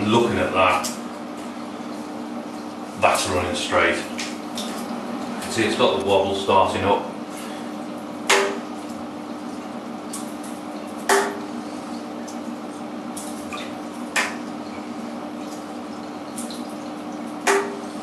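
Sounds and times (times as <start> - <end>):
bath water splashing: 0.0 - 18.0.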